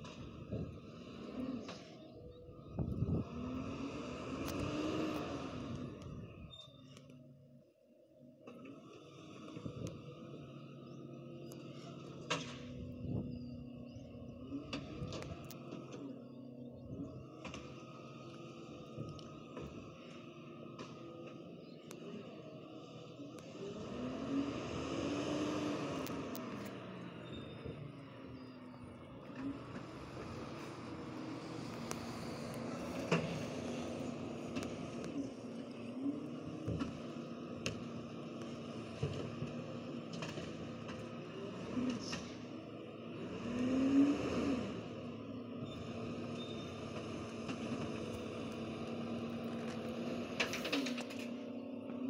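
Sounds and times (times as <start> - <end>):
garbage truck diesel engine running: 0.0 - 52.0.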